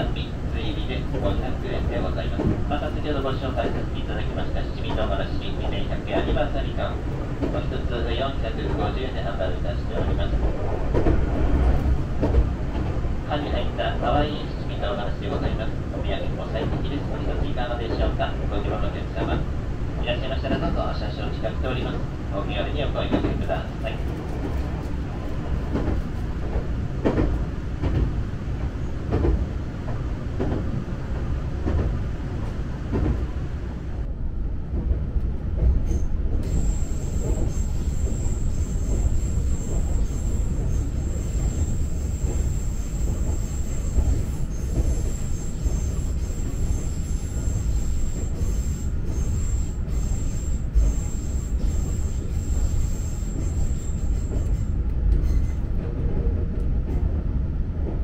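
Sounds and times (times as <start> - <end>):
rail clicks: 0.0 - 34.0, 34.6 - 58.0
train rumbling: 0.0 - 58.0.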